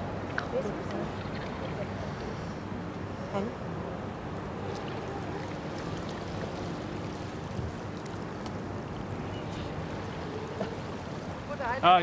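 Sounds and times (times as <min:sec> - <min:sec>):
outdoor background noise over water: 0:00.0 - 0:12.0.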